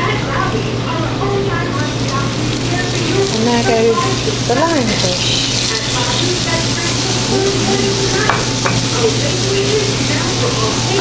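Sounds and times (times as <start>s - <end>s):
fish frying in hot oil: 1.9s - 11.0s.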